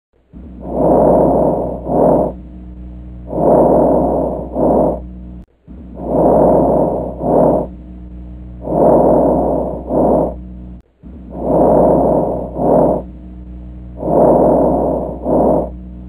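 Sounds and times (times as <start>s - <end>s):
steady low hum: 0.2s - 16.0s.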